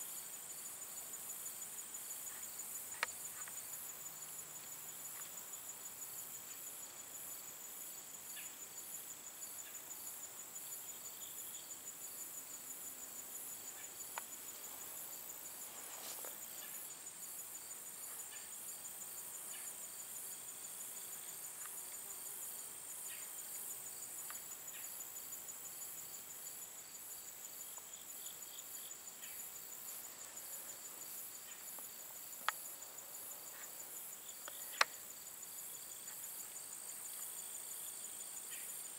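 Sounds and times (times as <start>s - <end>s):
crickets trilling: 0.0s - 38.9s
lower insect chirping: 0.0s - 38.9s.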